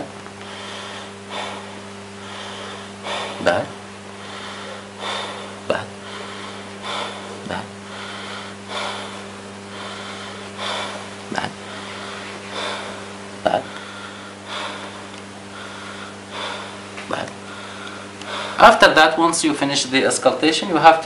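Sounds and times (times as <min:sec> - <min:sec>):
man breathing deeply: 0:00.0 - 0:18.8
steady low hum: 0:00.0 - 0:21.0.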